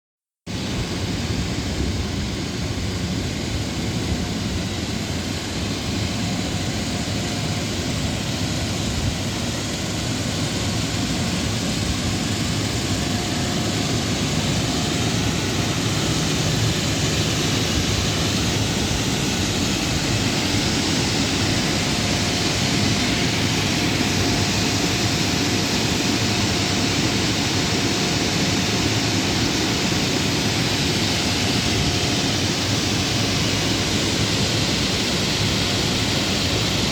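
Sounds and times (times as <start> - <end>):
large fans roaring: 0.5 - 36.9.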